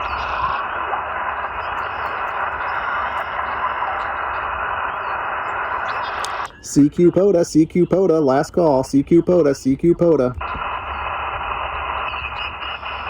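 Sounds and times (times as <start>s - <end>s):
radio band noise hiss: 0.0s - 13.0s.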